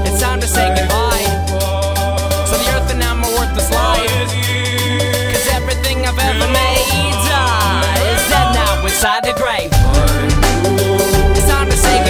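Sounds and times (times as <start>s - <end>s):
person singing: 0.0s - 12.0s
song with heavy bass and drums: 0.0s - 12.0s.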